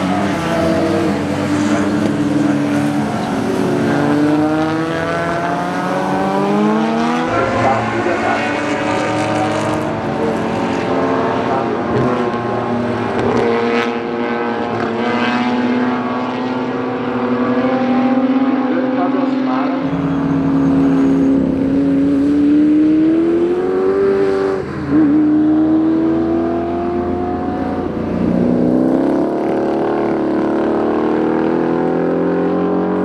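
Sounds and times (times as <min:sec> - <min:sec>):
racing car engines accelerating: 0:00.0 - 0:33.0.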